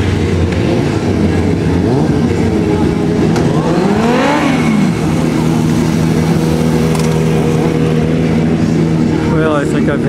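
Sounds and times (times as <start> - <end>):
motorcycle engine revving: 0.0 - 10.0
other engines running: 0.0 - 10.0.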